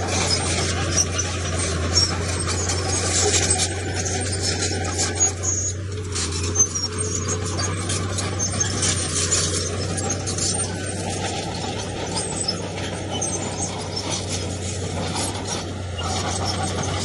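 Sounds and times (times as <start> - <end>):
diesel engine drone: 0.0 - 17.0
metallic track squeaks and clanks: 0.0 - 17.0
stone scraping: 0.0 - 17.0.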